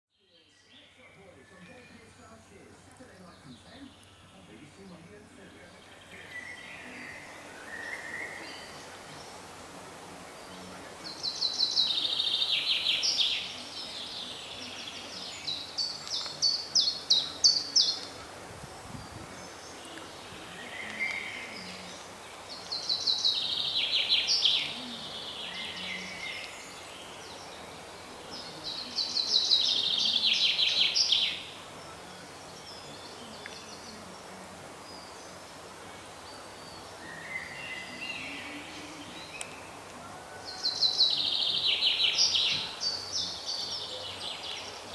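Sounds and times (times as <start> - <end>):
background hiss: 0.2 - 44.9
chaffinch singing: 0.2 - 44.9.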